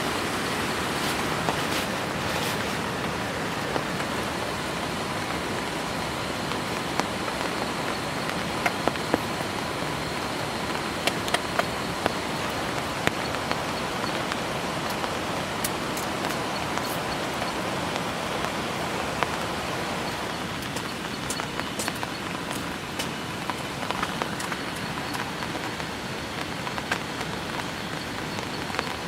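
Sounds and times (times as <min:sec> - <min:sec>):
heavy rain falling: 0:00.0 - 0:29.0
sharp rain ticks: 0:00.0 - 0:29.0.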